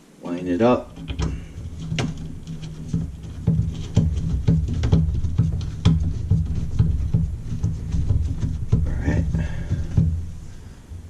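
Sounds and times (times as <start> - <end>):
steady low hum: 0.0 - 11.0
plastic clicks and knocks: 0.9 - 11.0.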